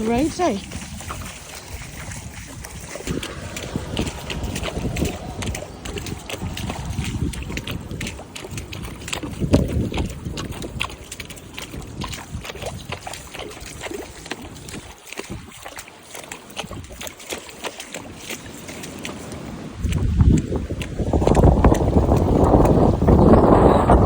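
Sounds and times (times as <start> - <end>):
wind buffeting microphone: 0.0 - 15.8, 16.5 - 17.1, 18.0 - 24.0
splashing through water: 0.0 - 24.0.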